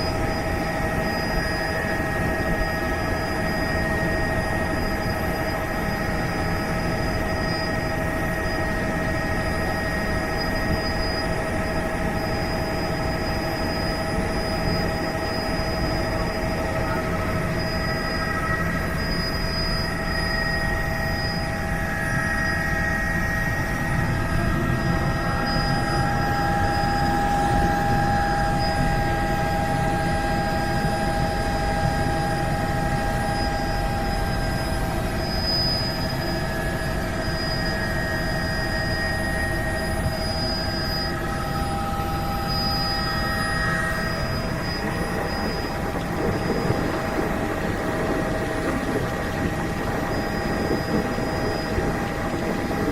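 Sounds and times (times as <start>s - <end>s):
helicopter engine and rotor: 0.0s - 52.9s
high whine: 0.0s - 52.9s.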